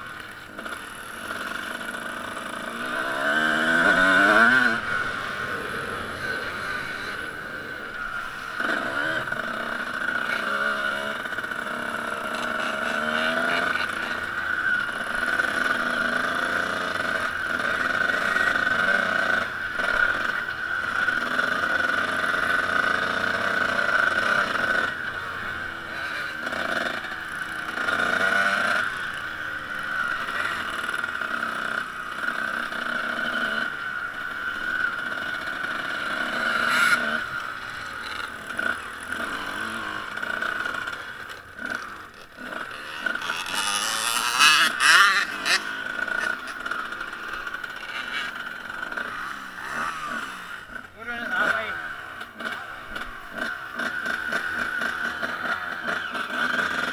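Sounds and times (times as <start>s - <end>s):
off-road motorcycle engine running: 0.0s - 56.9s.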